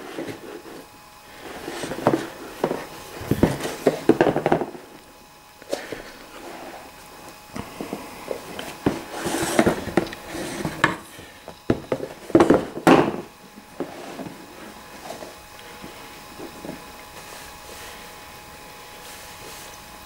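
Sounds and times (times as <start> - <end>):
cardboard board rustling and scraping: 0.0 - 5.0, 5.7 - 18.1.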